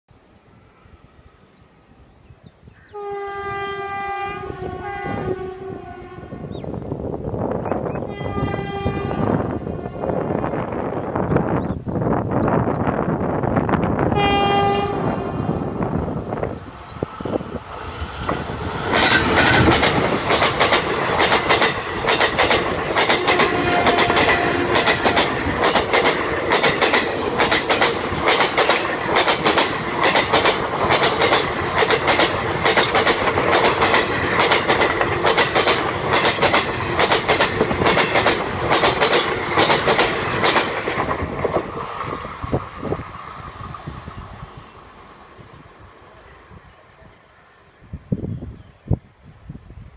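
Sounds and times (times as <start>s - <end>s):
train passing with clickety-clack: 3.0s - 47.6s.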